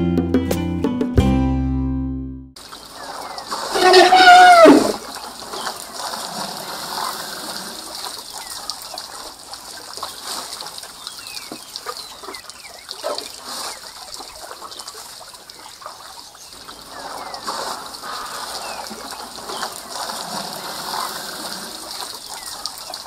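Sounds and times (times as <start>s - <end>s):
water splashing and trickling: 2.6s - 23.0s.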